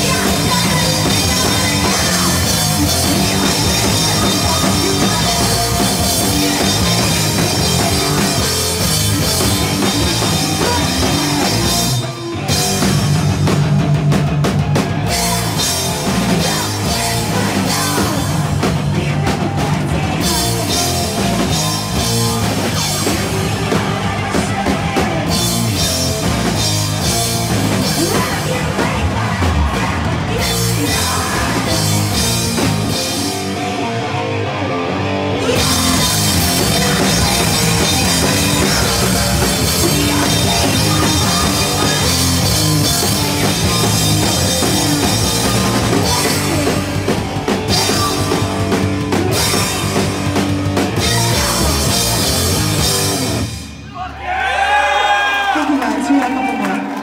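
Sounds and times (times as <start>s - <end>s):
heavy rock band playing: 0.0s - 57.0s.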